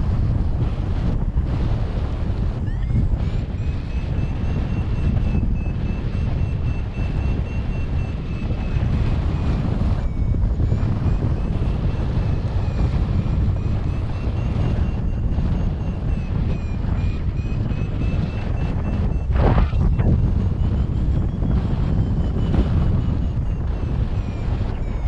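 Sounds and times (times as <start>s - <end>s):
variometer high tone: 0.0s - 25.0s
wind buffeting microphone: 0.0s - 25.0s.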